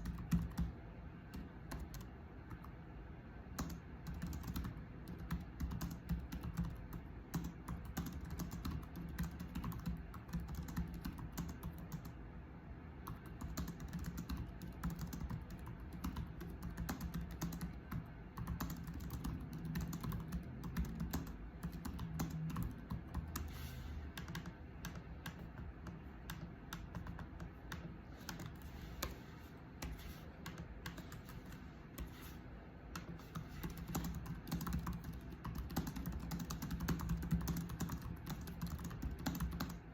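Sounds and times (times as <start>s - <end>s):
typing on computer keyboard: 0.0s - 2.8s, 3.5s - 12.2s, 13.0s - 29.2s, 29.8s - 32.2s, 32.9s - 39.9s.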